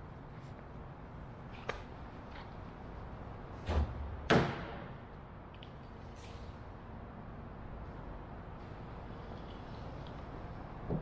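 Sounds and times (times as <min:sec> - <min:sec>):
workshop room noise: 0:00.0 - 0:11.0.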